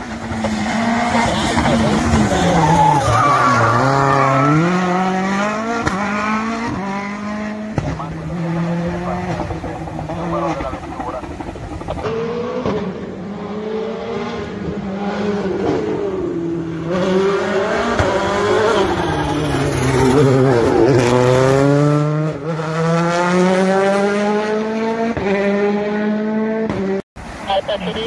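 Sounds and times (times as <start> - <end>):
rally car engine at full throttle: 0.0 - 28.0.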